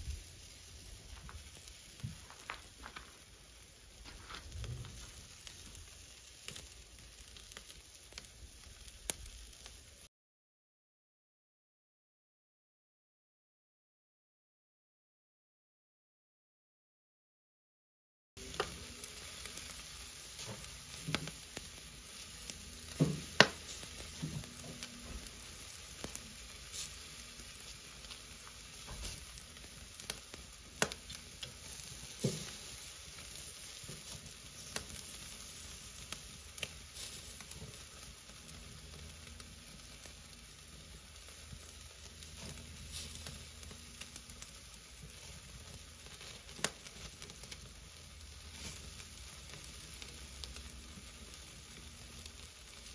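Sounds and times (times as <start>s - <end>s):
meat sizzling on a grill: 0.0s - 10.1s, 18.4s - 52.9s.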